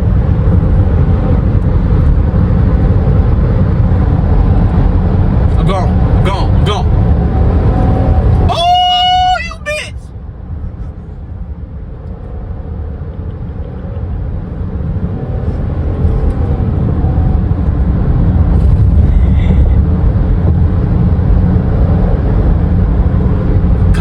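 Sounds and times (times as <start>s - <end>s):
car cabin road and engine rumble: 0.0s - 24.0s.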